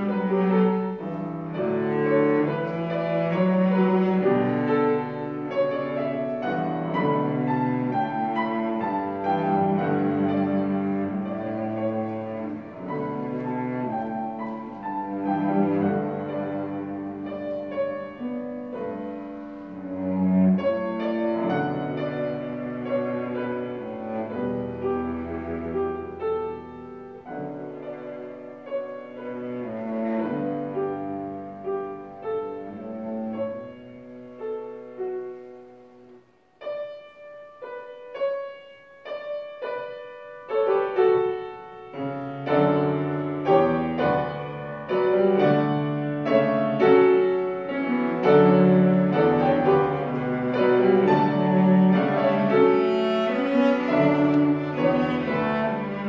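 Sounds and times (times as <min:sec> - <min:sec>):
bowed cello: 0:00.0 - 0:56.0
piano accompaniment: 0:00.0 - 0:56.0.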